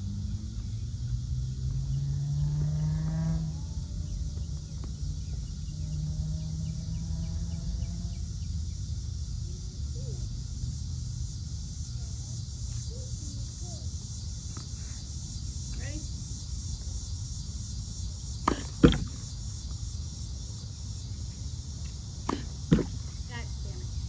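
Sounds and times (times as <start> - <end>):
crickets and insects chirping: 0.0 - 24.0
low steady rumble: 0.0 - 24.0.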